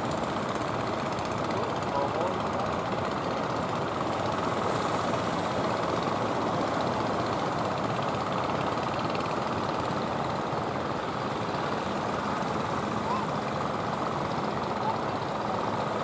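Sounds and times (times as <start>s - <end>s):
boat engine droning: 0.0s - 16.0s
sea wash: 0.0s - 16.0s.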